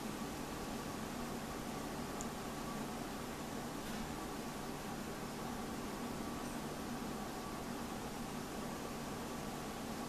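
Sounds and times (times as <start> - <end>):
faint low hum: 0.0 - 10.0
steady background hiss: 0.0 - 10.0.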